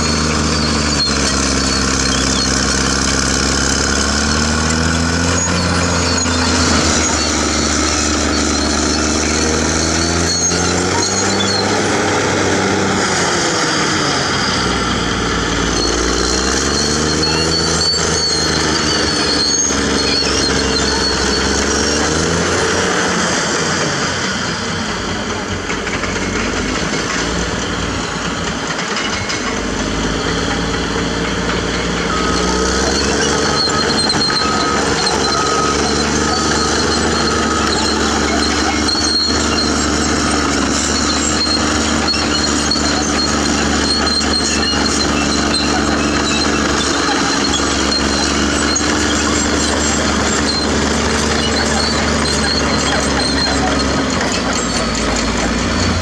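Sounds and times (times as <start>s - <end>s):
reversing alarm beeping: 0.0s - 22.8s, 29.9s - 56.0s
bulldozer diesel engine revving: 0.0s - 56.0s.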